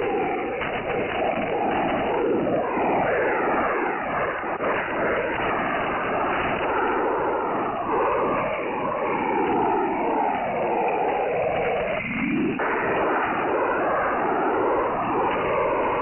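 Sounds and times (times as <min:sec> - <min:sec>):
warbling gliding radio tones: 0:00.0 - 0:16.0.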